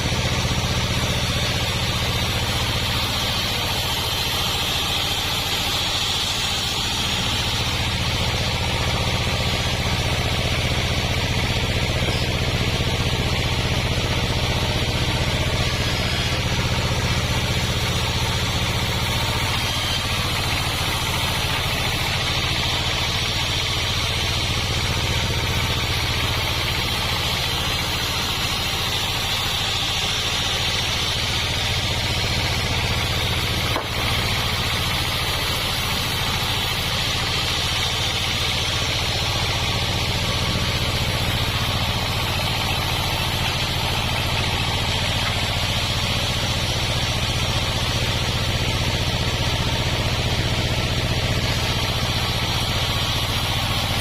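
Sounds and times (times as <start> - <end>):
high saw whine: 0.0 - 54.0
sawmill engine drone: 0.0 - 54.0.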